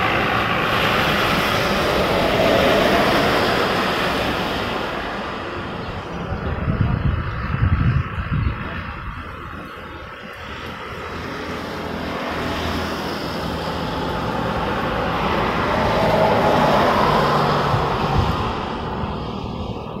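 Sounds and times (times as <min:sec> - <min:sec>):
tyres hissing on wet road: 0:00.0 - 0:06.6, 0:09.2 - 0:20.0
vehicle engine noise: 0:00.0 - 0:20.0.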